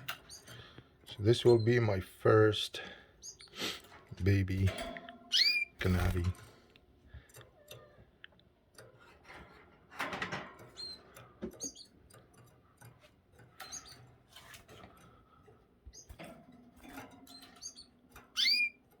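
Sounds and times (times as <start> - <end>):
canaries chirping: 0.0 - 6.3, 10.1 - 19.0.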